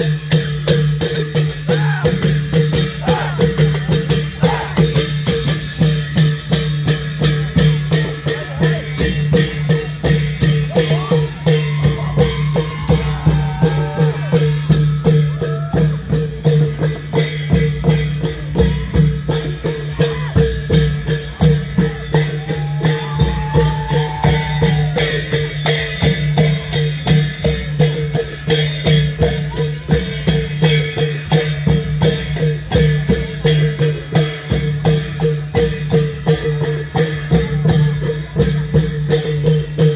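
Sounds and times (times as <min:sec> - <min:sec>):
long drum ensemble playing: 0:00.0 - 0:39.9.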